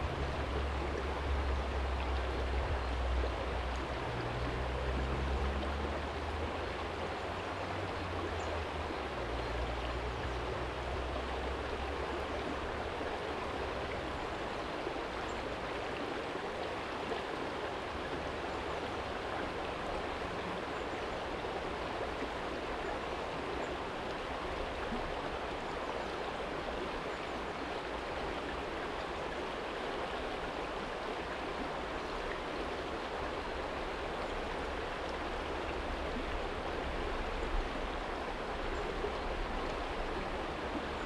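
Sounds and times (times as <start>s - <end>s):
stream flowing over stones: 0.0s - 41.0s.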